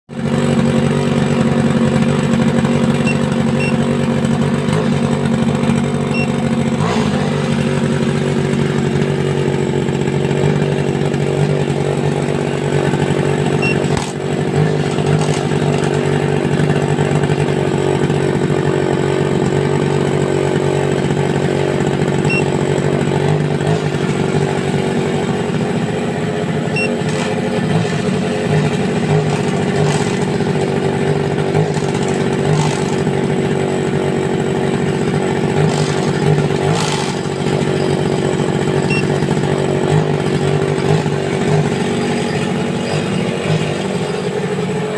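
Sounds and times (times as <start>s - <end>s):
small gasoline engine running: 0.1s - 44.9s.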